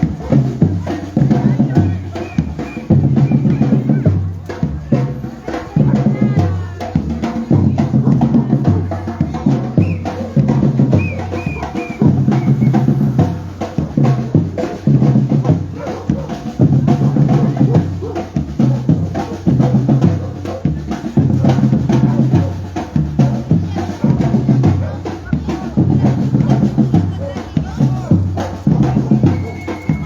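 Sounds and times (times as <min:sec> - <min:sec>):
drum ensemble playing rhythm: 0:00.0 - 0:30.0.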